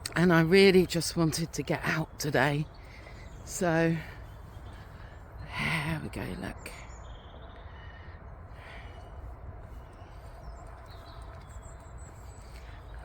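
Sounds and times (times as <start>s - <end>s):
low wind rumble on microphone: 0.0s - 13.0s.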